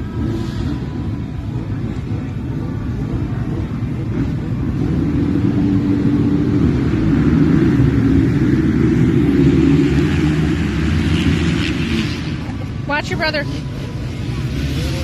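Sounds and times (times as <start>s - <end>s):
dirt bike engines running: 0.0s - 15.0s.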